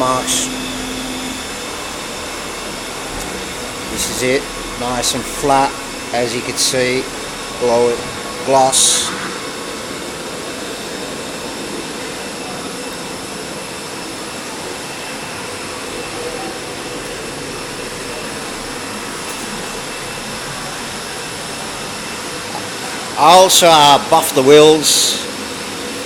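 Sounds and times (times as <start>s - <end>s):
mechanical drone with whine: 0.0s - 26.0s.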